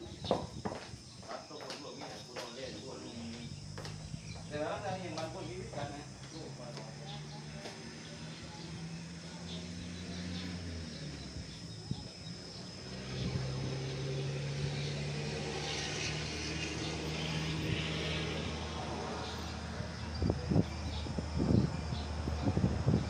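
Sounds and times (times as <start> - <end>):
distant engine humming: 0.0 - 23.0.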